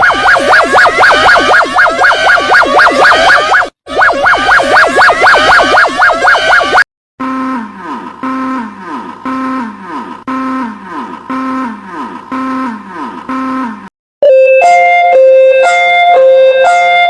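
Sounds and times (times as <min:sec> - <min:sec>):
fast warbling siren: 0:00.0 - 0:10.7, 0:11.4 - 0:17.0
low electronic horn tone: 0:00.0 - 0:17.0.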